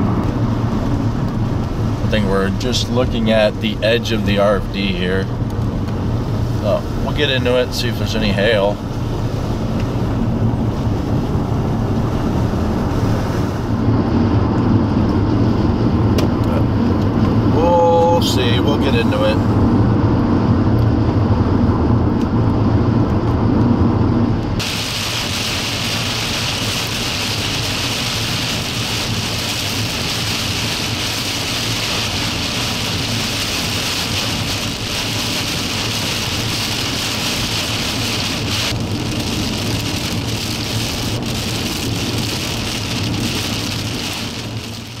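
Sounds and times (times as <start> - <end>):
heavy rain pelting car roof: 0.0 - 14.8, 15.4 - 19.7, 24.6 - 45.0
car road and engine rumble: 0.0 - 45.0.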